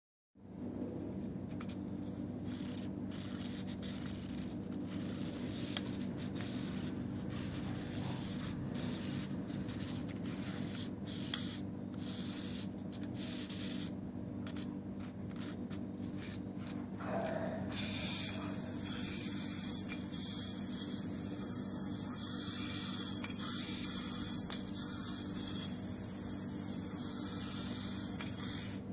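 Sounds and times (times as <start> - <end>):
clockwork spring buzzing: 1.6 - 16.4, 17.1 - 28.9
clockwork toy being wound: 2.0 - 16.4, 17.2 - 28.8.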